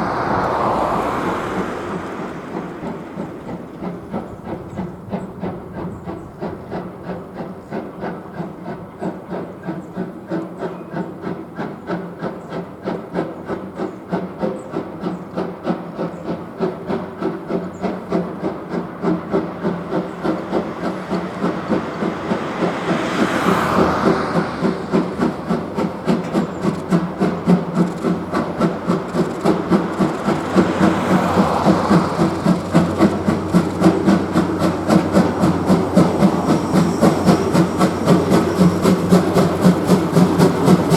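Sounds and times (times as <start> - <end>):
steam hissing: 0.0 - 40.9
steam locomotive exhaust beats: 0.0 - 40.9.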